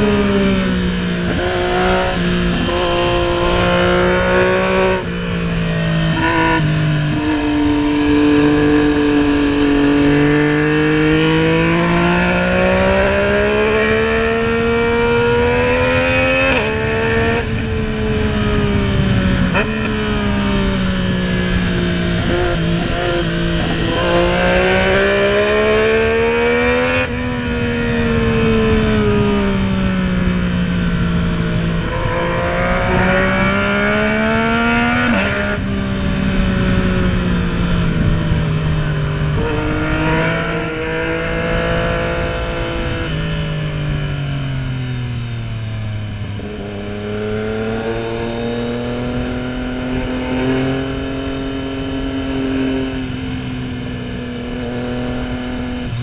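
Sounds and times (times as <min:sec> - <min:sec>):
motorcycle engine accelerating: 0:00.0 - 0:56.0
wind and road noise: 0:00.0 - 0:56.0.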